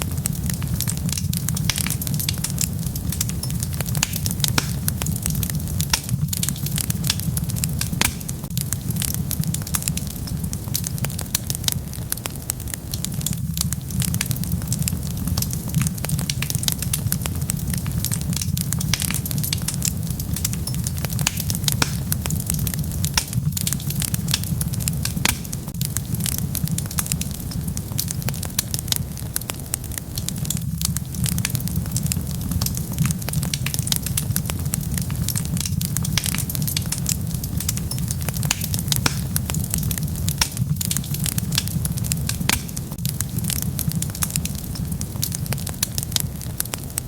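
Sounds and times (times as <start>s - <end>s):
low rumble of flames: 0.0s - 47.0s
wood fire pops and snaps: 0.0s - 47.0s.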